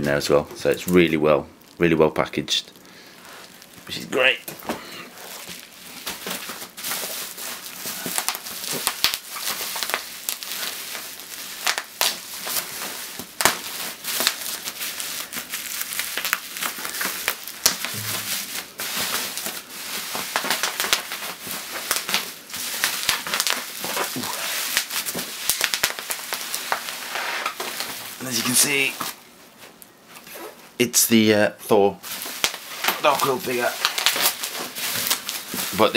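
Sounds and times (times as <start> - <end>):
bubble wrap crinkling: 0.0 - 30.8, 32.0 - 35.9.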